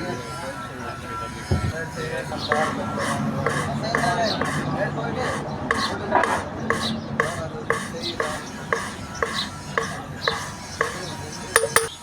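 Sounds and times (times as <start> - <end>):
valve lapping rasping strokes: 1.9 - 12.0.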